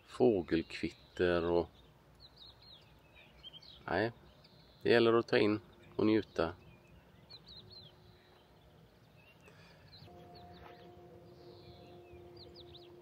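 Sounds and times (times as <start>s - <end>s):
faint songbirds chirping: 0.0s - 13.0s.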